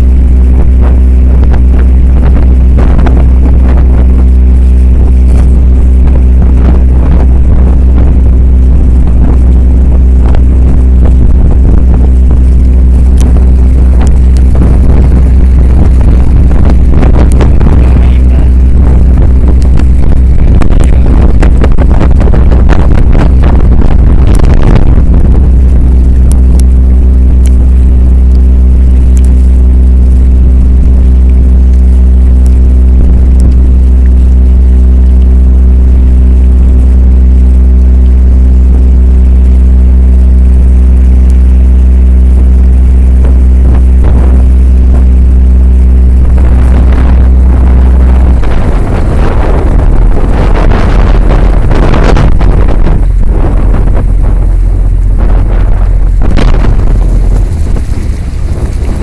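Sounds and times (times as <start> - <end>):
boat engine humming: 0.0 - 59.0
wind and water rushing: 0.0 - 59.0.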